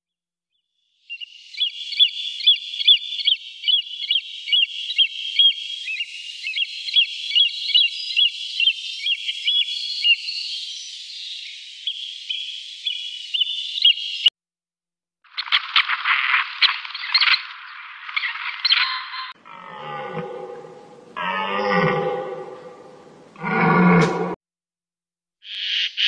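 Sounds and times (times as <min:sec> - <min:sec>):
bird chirping: 0:01.1 - 0:14.3, 0:16.6 - 0:24.3.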